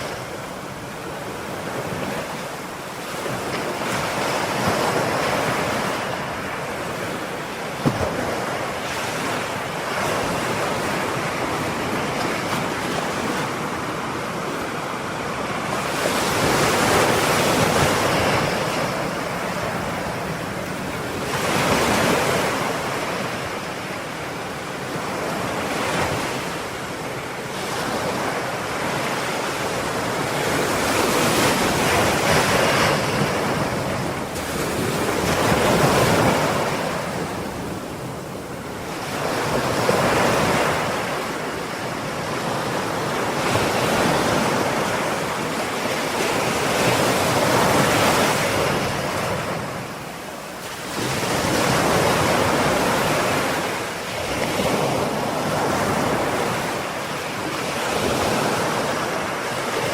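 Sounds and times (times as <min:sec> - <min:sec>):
ocean surf on a shore: 0:00.0 - 0:59.9.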